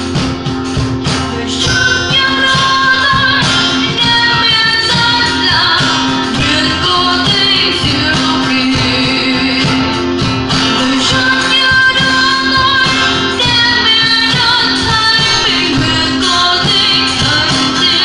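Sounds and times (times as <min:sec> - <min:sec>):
acoustic guitar: 0:00.0 - 0:18.0
woman singing into a microphone: 0:00.0 - 0:18.0.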